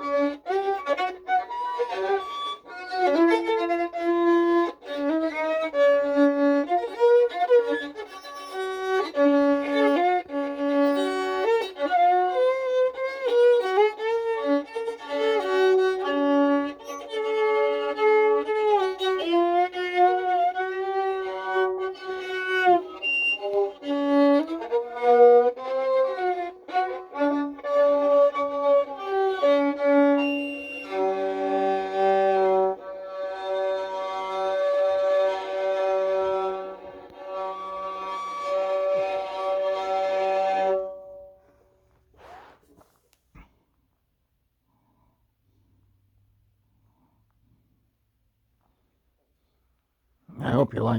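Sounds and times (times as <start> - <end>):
violin melody: 0.0 - 41.6.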